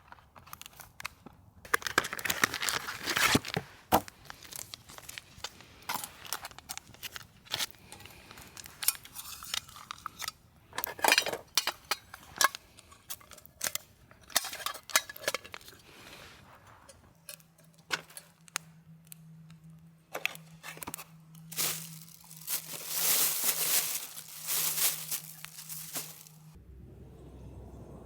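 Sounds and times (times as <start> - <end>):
crinkling and rustling: 0.0 - 18.6, 20.1 - 26.6.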